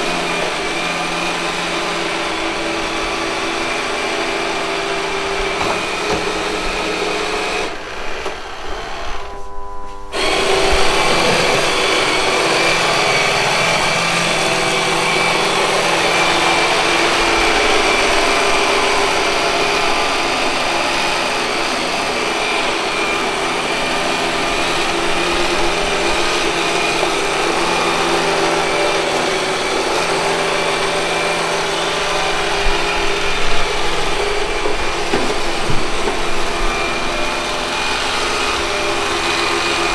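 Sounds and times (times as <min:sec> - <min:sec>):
robot vacuum cleaner whirring: 0:00.0 - 0:39.9.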